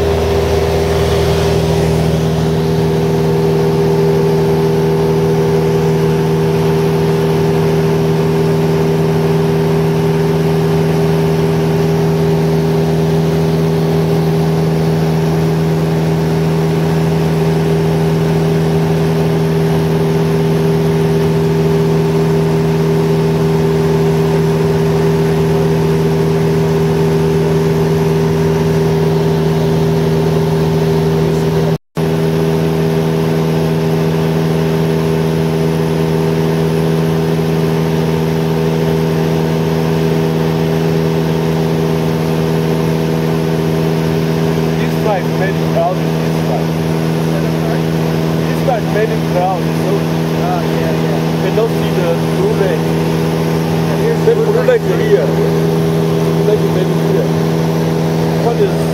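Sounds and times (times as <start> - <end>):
light aircraft engine drone: 0.0 - 58.9.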